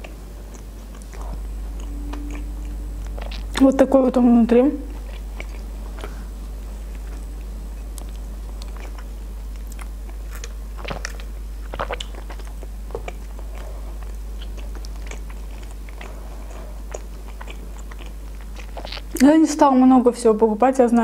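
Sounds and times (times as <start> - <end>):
person chewing food: 0.0 - 3.8, 4.9 - 19.2
low steady hum: 0.0 - 21.0.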